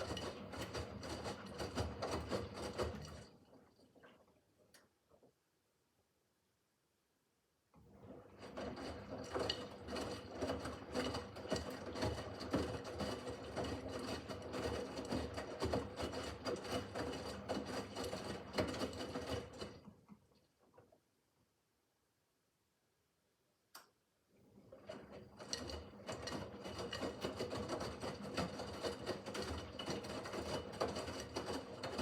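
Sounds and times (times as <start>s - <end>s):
washing machine motor hum: 0.0s - 5.4s, 7.8s - 21.0s, 24.3s - 32.0s.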